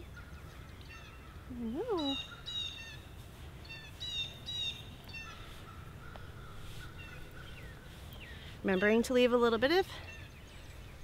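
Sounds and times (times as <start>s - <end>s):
distant birds calling: 0.0s - 11.0s.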